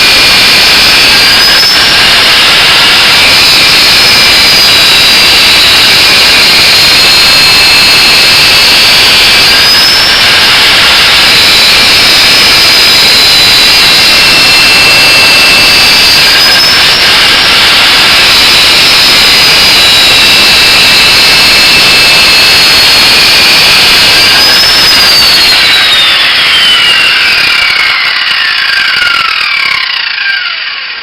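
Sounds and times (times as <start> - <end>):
angle grinder grinding metal: 0.0 - 31.0.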